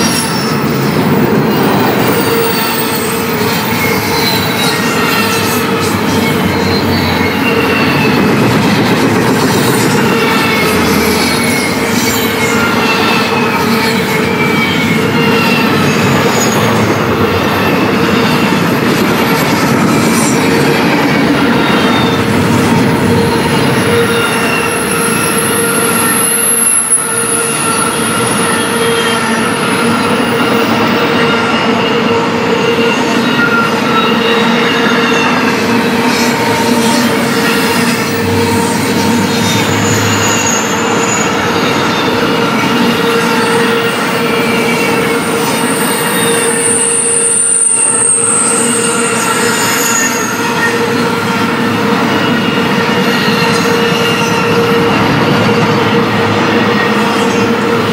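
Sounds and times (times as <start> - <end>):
high-pitched wheel squeal: 0.0 - 57.9
steel wheels squealing: 0.0 - 57.9.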